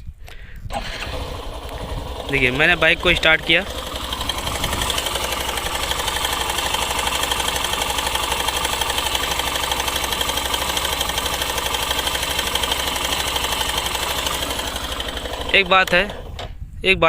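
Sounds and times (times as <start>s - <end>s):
motorcycle engine idling with rattle: 0.1s - 16.7s.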